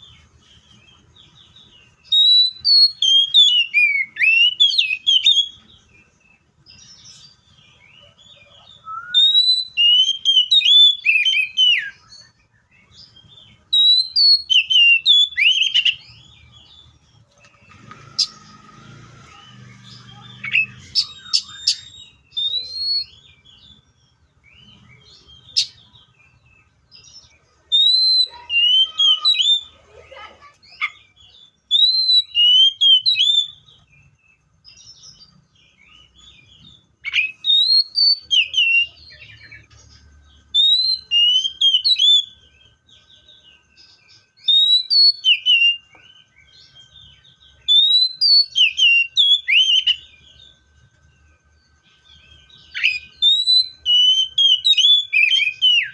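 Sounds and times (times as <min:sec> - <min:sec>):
bird singing whistled notes: 0:00.0 - 0:29.8, 0:30.6 - 0:55.9.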